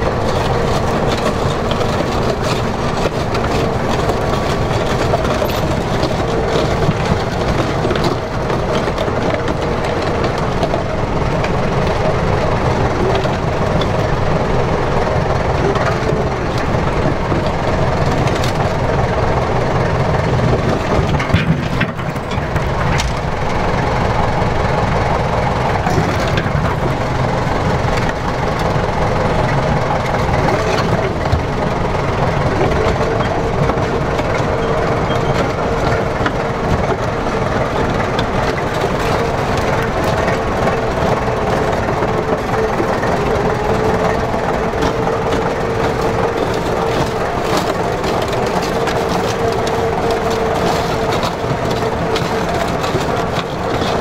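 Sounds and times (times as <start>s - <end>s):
diesel engine running: 0.0s - 54.0s
steel tracks clanking: 0.0s - 54.0s.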